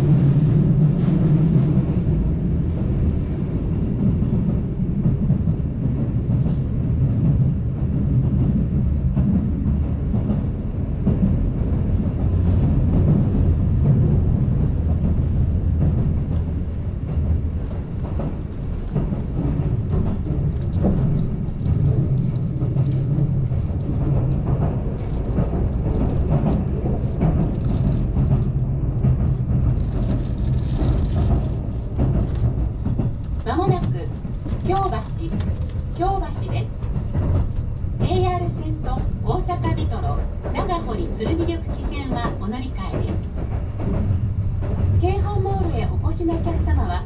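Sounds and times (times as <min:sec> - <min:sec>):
train wheels and motors rumbling: 0:00.0 - 0:47.0.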